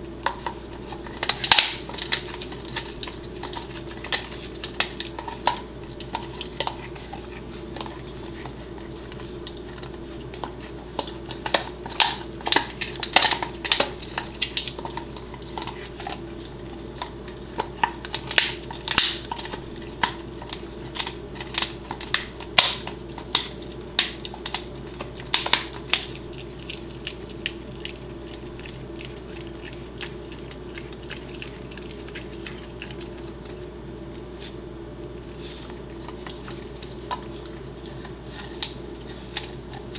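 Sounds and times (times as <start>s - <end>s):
dog crunching hard chew: 0.0s - 34.6s, 35.2s - 39.9s.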